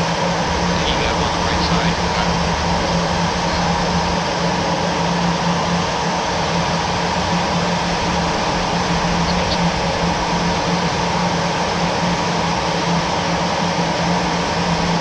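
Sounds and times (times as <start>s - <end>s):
steady mechanical drone: 0.0s - 15.0s.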